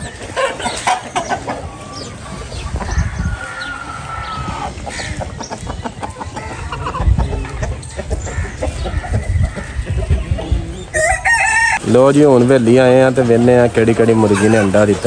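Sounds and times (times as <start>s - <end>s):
drawn-out chicken call: 0.0s - 11.8s, 14.3s - 14.8s
chickens clucking: 0.0s - 15.0s.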